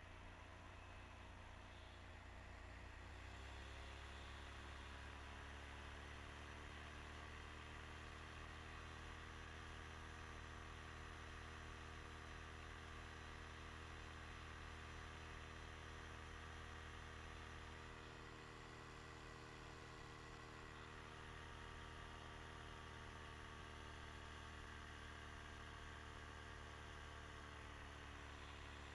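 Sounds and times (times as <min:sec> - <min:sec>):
faint small engine and propeller: 0:00.0 - 0:28.9.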